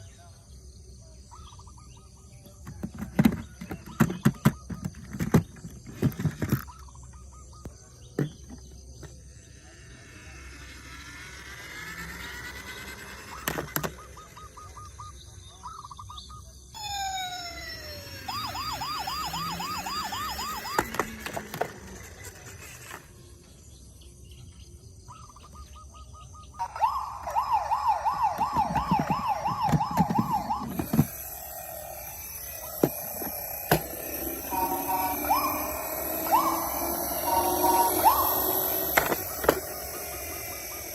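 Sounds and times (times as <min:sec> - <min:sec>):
toy electronic sirens: 0:02.4 - 0:23.5, 0:25.2 - 0:40.9.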